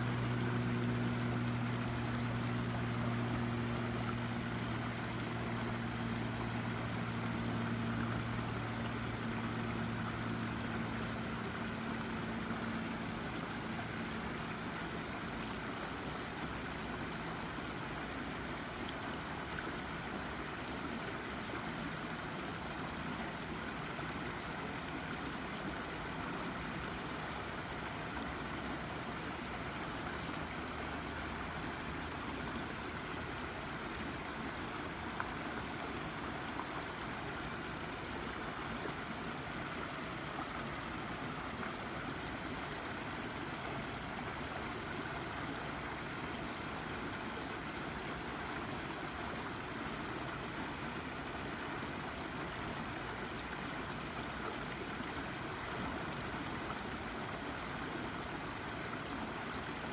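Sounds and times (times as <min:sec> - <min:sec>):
brook babbling over rocks: 0:00.0 - 0:59.9
low steady hum: 0:00.0 - 0:59.9.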